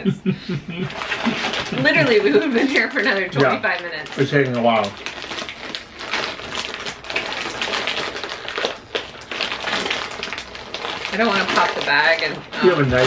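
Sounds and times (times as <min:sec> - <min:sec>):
snack packet crinkling: 0:00.9 - 0:13.0.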